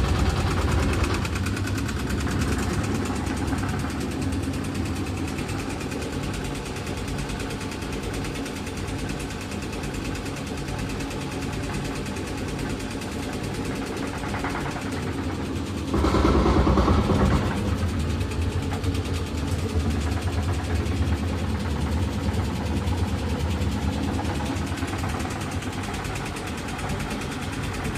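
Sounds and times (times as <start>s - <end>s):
washing machine motor hum: 0.0s - 27.9s.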